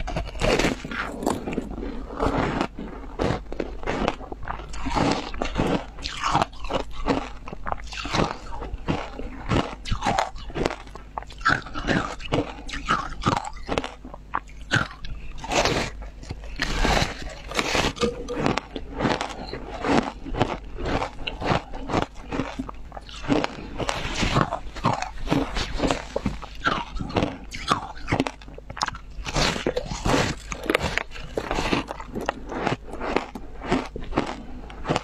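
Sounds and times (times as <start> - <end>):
person crunching ice: 0.0 - 35.0.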